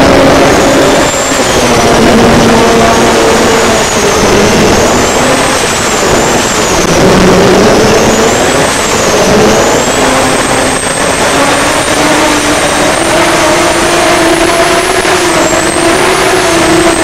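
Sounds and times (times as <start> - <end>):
race boat engine running hard: 0.0 - 17.0
turbo whine: 0.0 - 17.0
wind and water rushing: 0.0 - 17.0.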